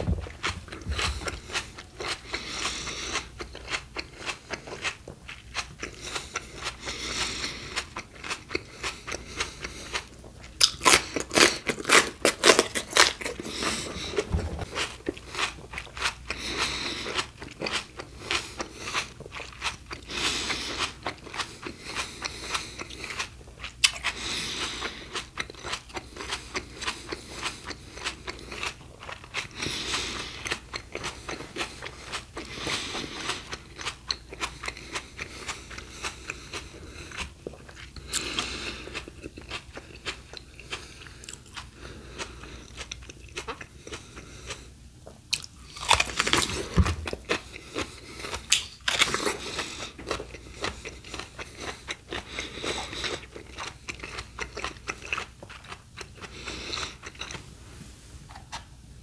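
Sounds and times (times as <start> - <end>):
crunching and chewing raw vegetables: 0.0 - 58.7.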